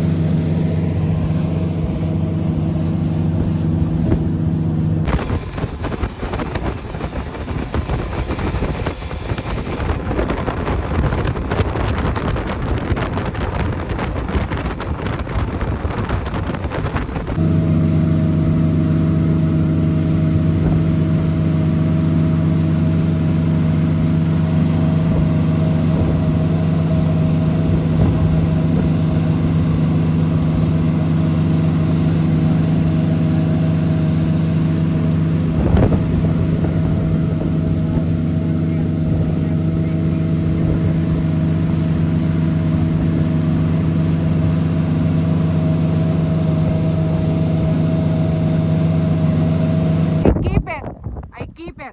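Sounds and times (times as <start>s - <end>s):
water noise: 0.0s - 50.3s
motorboat engine: 0.0s - 50.8s
wind noise: 0.0s - 51.9s.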